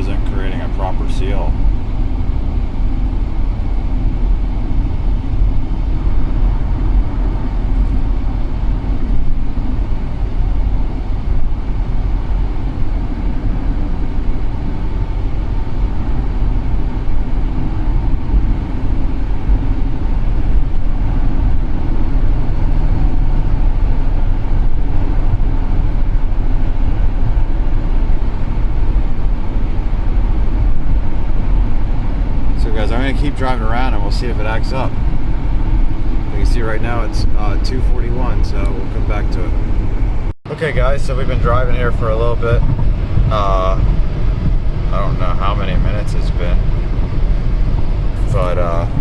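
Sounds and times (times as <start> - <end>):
car engine drone: 0.0 - 49.0
road noise: 0.0 - 49.0.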